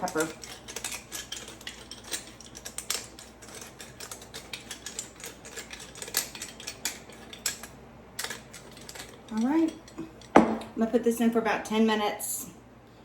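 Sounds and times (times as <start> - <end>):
pepper mill grinding: 0.0 - 10.7.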